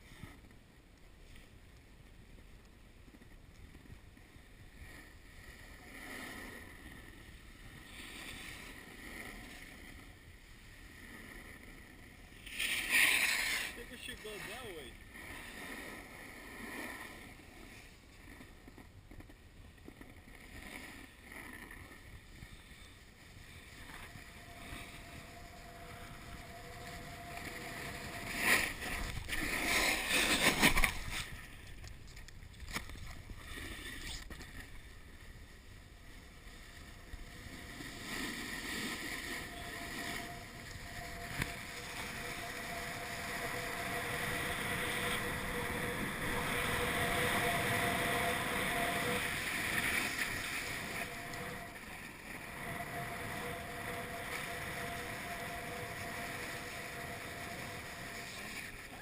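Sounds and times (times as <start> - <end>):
snowboard scraping over snow: 1.1 - 59.0.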